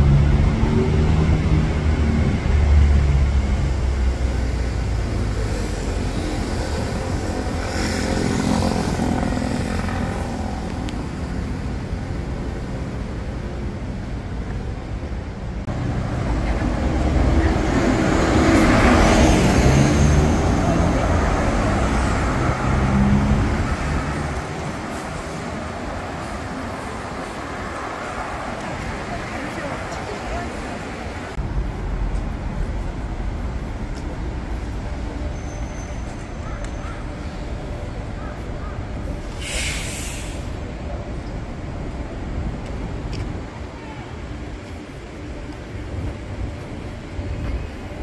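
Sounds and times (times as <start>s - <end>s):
city traffic: 0.0s - 48.0s.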